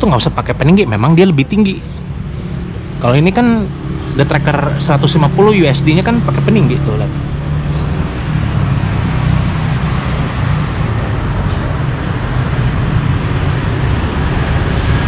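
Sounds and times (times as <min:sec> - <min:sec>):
road traffic noise: 0:00.0 - 0:15.0
vehicle engine droning: 0:00.9 - 0:15.0.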